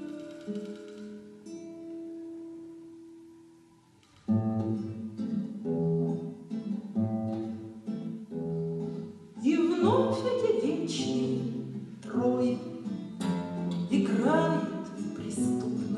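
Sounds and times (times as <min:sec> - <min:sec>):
classical guitar chords: 0:00.0 - 0:15.9.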